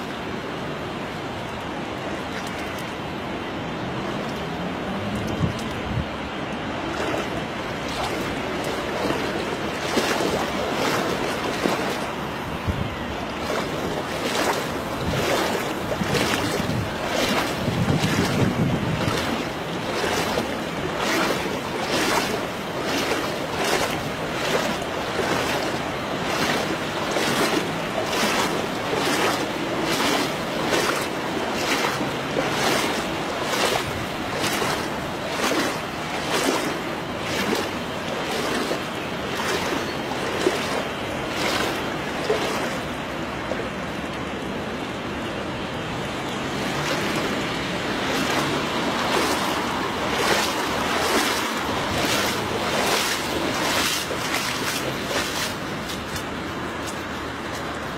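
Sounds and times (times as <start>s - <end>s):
footsteps wading through water: 0.0s - 57.9s
wind buffeting microphone: 3.9s - 43.3s, 45.6s - 57.9s.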